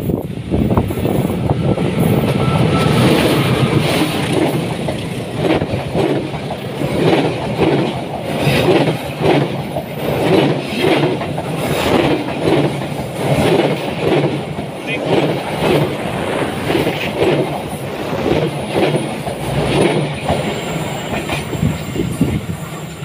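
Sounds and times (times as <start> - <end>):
diesel locomotive passing: 0.0 - 23.0
strong gust of wind: 0.0 - 23.0
train wheels clattering over rail joints: 0.0 - 23.0.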